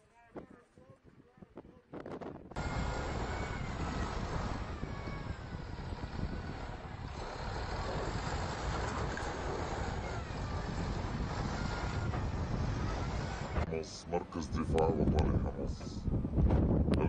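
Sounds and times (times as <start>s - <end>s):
wheel loader engine: 2.6s - 17.0s.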